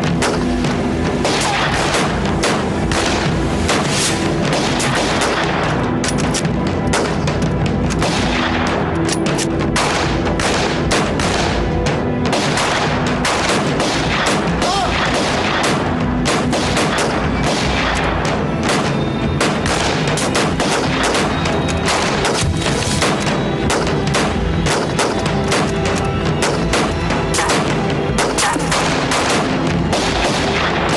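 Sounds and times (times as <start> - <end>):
music: 0.0 - 30.9
rifle gunfire: 0.0 - 30.9.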